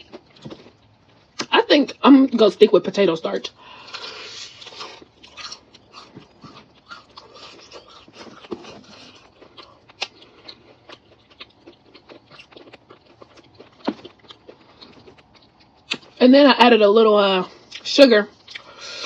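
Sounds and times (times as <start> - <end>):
chewing crispy fried chicken: 0.0 - 2.0, 3.4 - 16.2, 17.5 - 19.0.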